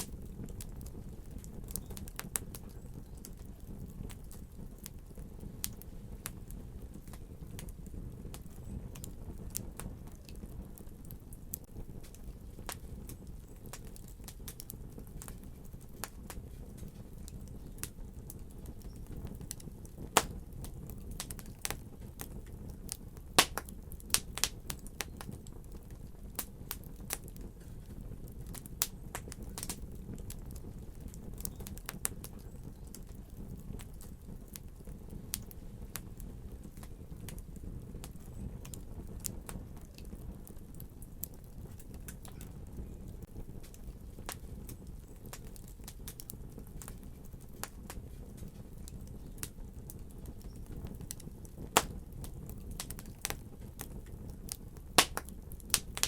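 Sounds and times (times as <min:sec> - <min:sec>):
fire crackling with pops: 0:00.0 - 0:56.0.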